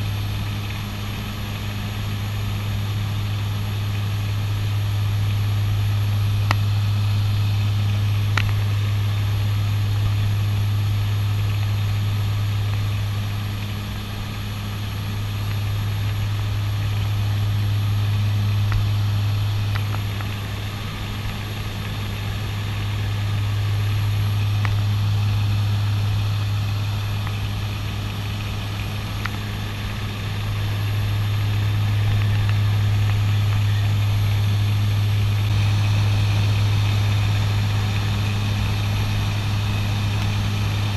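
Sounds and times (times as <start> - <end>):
turboprop engines droning: 0.0 - 40.9.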